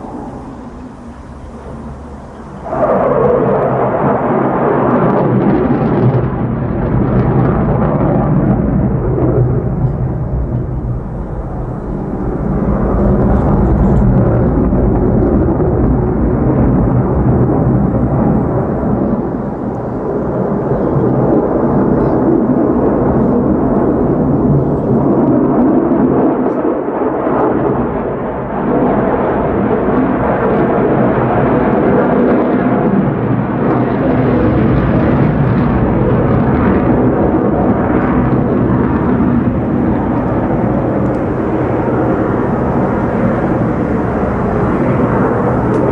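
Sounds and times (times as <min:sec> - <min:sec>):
jet engine roaring: 0:00.0 - 0:45.9.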